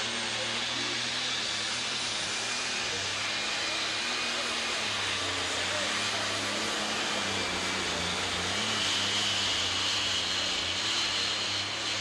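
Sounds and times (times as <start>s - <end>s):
high engine whine: 0.0s - 12.0s
tractor diesel engine roaring: 0.0s - 12.0s.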